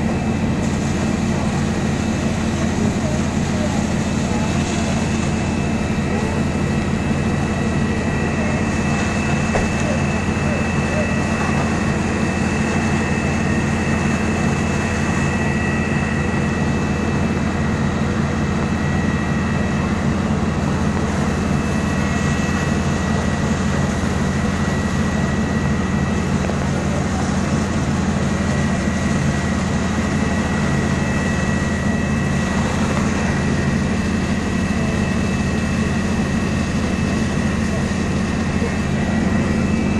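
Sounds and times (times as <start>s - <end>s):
diesel engines running at high revs: 0.0s - 39.9s
high whine: 0.0s - 39.9s.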